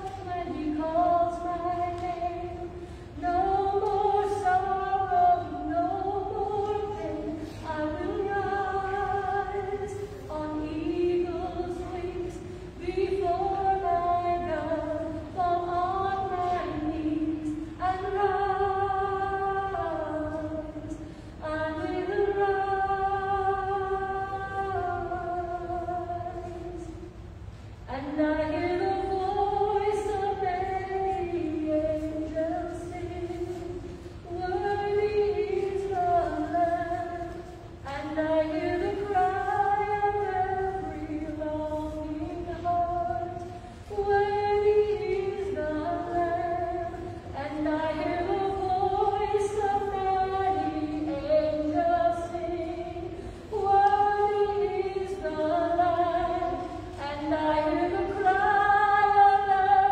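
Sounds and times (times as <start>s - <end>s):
woman singing into microphone: 0.0s - 59.9s.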